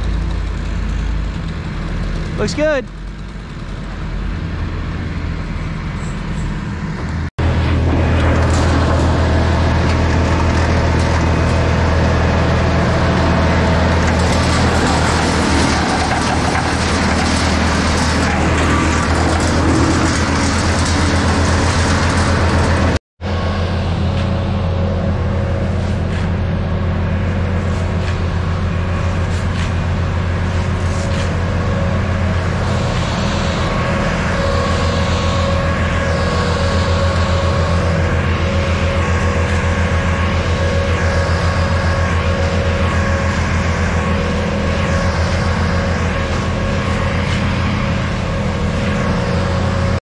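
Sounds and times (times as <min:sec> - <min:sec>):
tree chipper engine running: 0:00.0 - 0:50.0
branches grinding in chipper: 0:07.4 - 0:23.0, 0:23.9 - 0:50.0.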